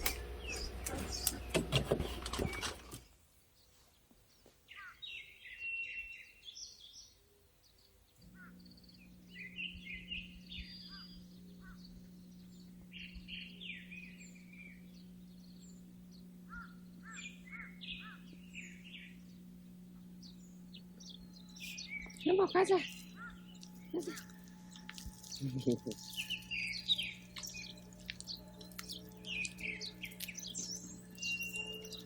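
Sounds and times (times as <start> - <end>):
low mechanical hum: 0.0 - 3.2, 7.7 - 32.0
small birds chirping: 0.0 - 32.0.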